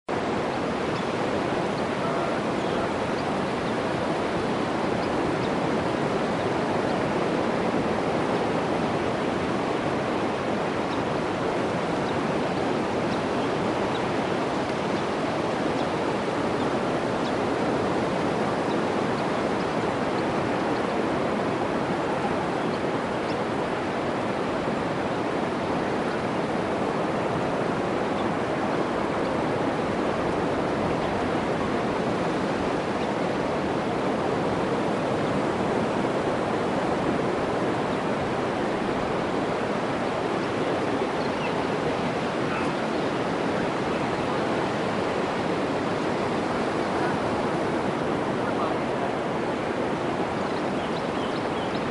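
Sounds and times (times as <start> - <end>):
ocean surf breaking: 0.2 - 50.8.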